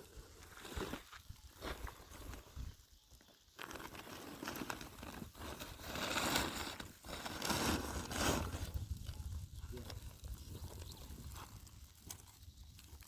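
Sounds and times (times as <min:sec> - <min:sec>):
rustling and crinkling with clicks: 0:00.3 - 0:13.0.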